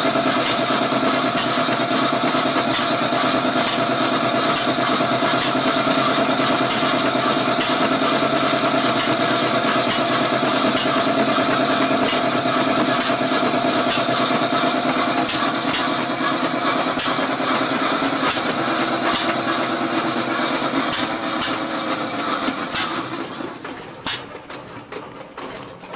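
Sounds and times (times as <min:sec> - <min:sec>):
cotton gin whirring: 0:00.0 - 0:25.9.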